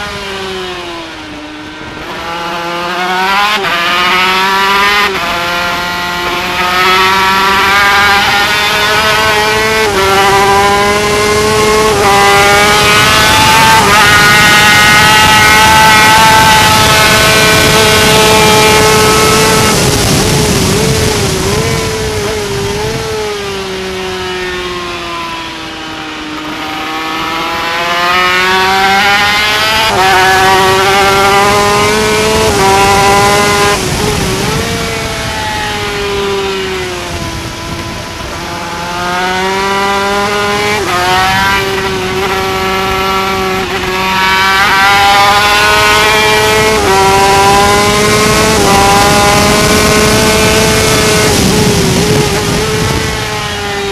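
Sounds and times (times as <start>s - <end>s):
racing motorcycle engine: 0.0s - 53.9s
wind noise: 0.0s - 53.9s.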